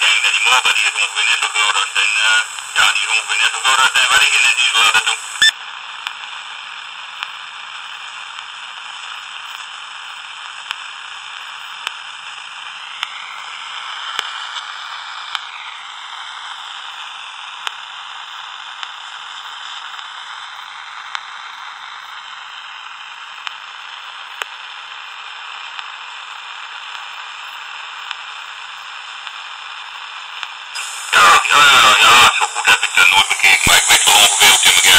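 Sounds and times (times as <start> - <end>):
radio static hiss: 0.0 - 5.5, 6.3 - 27.4, 28.2 - 34.9.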